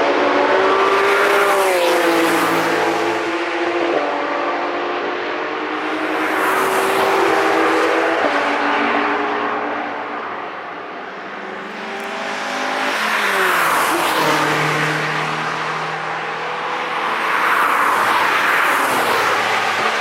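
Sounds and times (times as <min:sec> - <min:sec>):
race cars passing at speed: 0:00.0 - 0:20.0.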